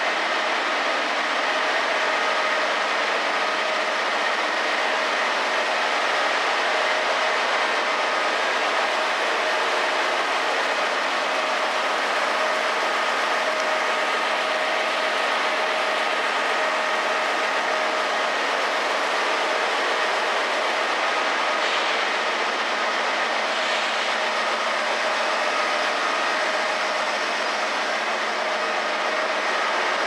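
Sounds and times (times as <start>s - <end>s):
printing press mechanical din: 0.0s - 30.0s.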